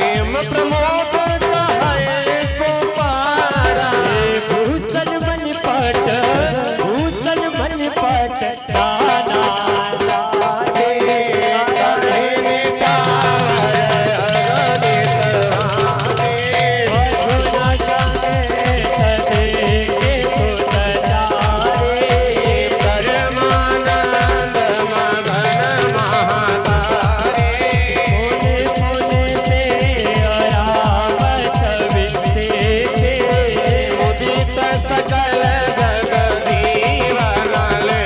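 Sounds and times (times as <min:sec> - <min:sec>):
electronic drum beat: 0:00.0 - 0:38.0.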